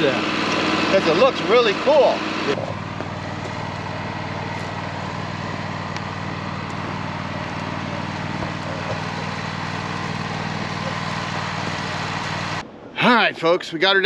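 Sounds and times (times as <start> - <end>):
engine idling: 0.0 - 12.6.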